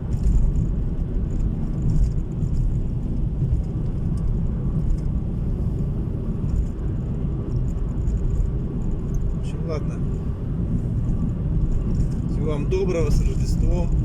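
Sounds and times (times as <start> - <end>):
moving car rumble: 0.0 - 14.0.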